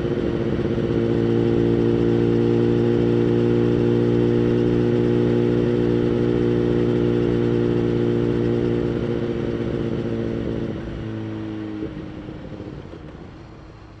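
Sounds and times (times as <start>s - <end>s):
motorcycle engine holding steady note: 0.0s - 14.0s.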